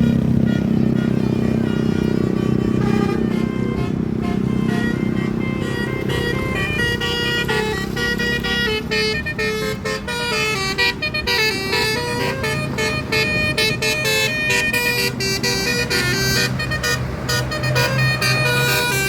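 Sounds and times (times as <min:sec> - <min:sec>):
bus engine running: 0:00.0 - 0:19.0
musical air horn tune: 0:00.0 - 0:19.0.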